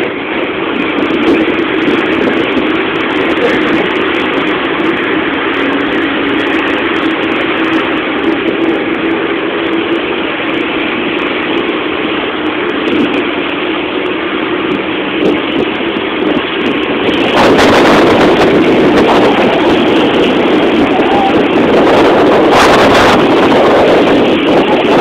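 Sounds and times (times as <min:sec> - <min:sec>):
road and wind noise: 0:00.0 - 0:25.0
vehicle engine running: 0:00.0 - 0:25.0.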